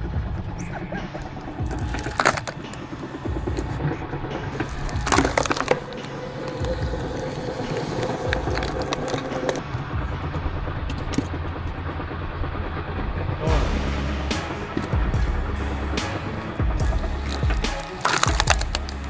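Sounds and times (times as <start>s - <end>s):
steady whine: 0.0s - 19.0s.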